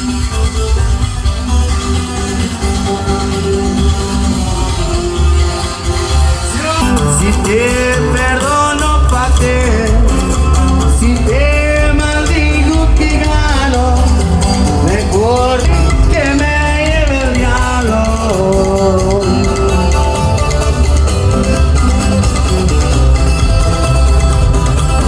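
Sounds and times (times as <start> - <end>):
band music with heavy bass: 0.0 - 25.0.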